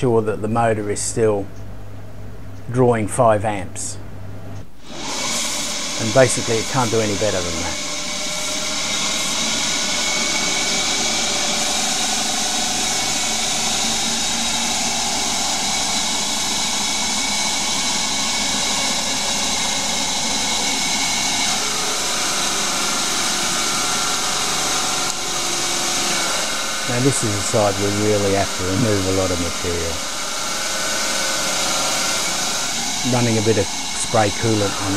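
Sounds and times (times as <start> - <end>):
lathe machining whine: 4.8 - 34.9.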